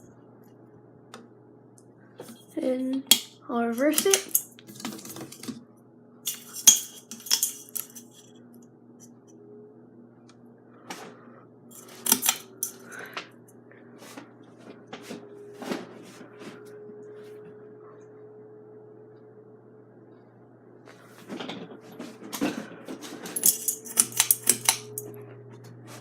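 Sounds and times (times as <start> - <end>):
ceiling fan motor hum: 0.0 - 26.0.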